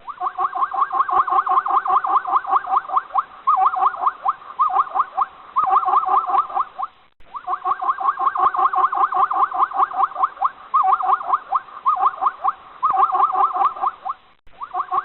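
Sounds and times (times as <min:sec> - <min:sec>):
animal squeaking rapidly: 0:00.0 - 0:15.0.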